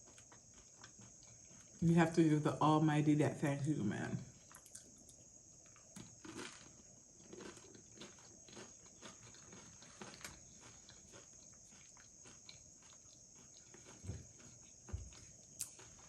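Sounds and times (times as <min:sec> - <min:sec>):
chewing crunchy food: 0:00.0 - 0:02.2, 0:04.3 - 0:16.0.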